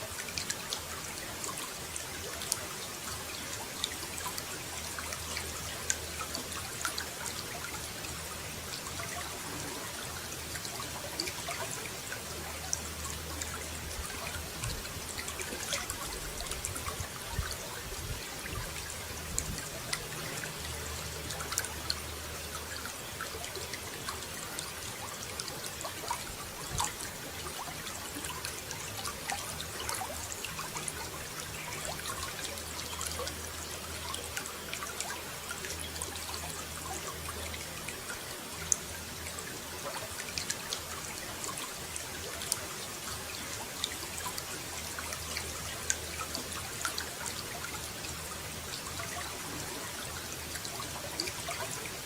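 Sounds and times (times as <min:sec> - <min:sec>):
water dripping: 0:00.0 - 0:52.0
water trickling and splashing: 0:00.0 - 0:52.0.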